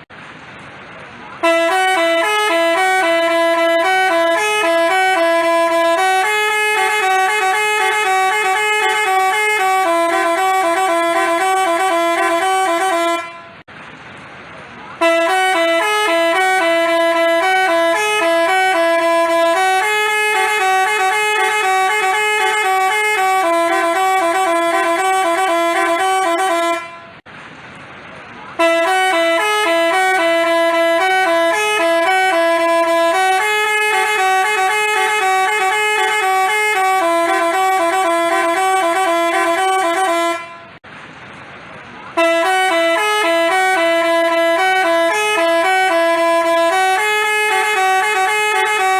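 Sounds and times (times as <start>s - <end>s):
multi-tone bus horn tune: 1.2s - 13.7s, 14.9s - 27.3s, 28.5s - 40.8s, 42.1s - 48.9s.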